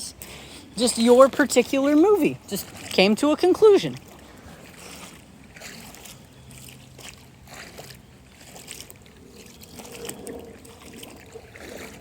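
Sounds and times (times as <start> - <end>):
shallow water trickling: 0.0 - 12.0
small water splashes: 0.0 - 12.0.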